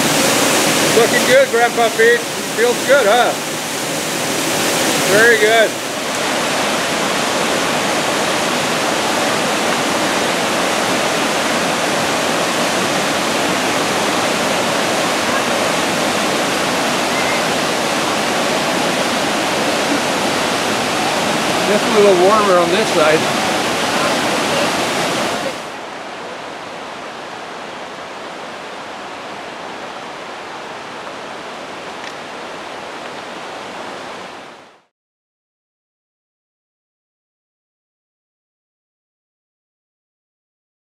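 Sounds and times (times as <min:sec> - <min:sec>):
waterfall rushing onto rocks: 0:00.0 - 0:34.9.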